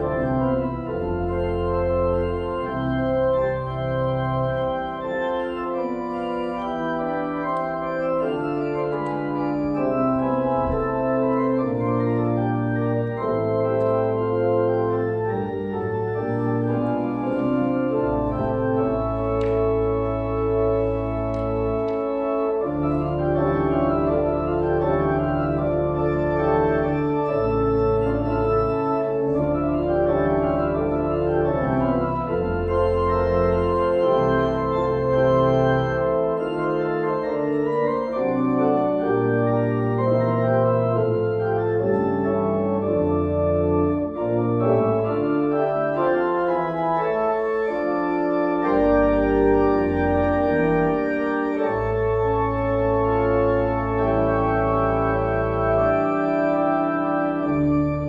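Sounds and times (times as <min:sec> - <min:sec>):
organ playing full chords: 0:00.0 - 0:58.0.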